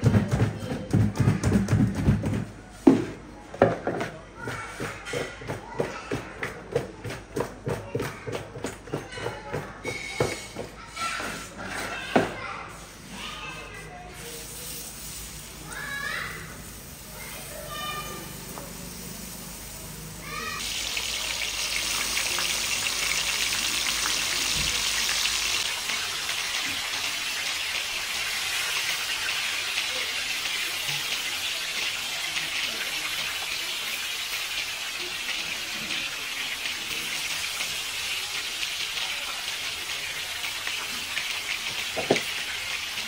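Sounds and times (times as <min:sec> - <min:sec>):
food sizzling on a griddle: 0:03.8 - 0:43.0.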